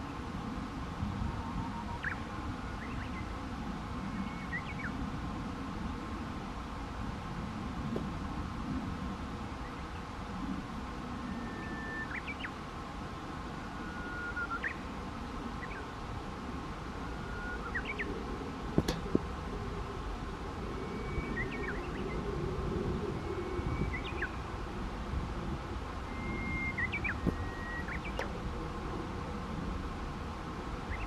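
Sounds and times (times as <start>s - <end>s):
songbird singing: 0.0s - 5.1s, 9.2s - 16.1s, 16.7s - 29.3s, 30.7s - 31.0s.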